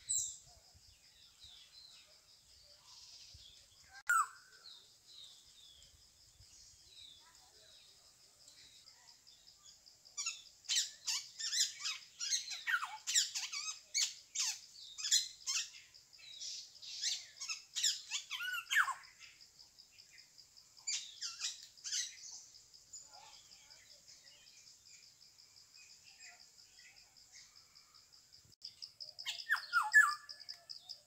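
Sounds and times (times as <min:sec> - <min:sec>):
high pulsing insect hum: 0:00.0 - 0:31.0.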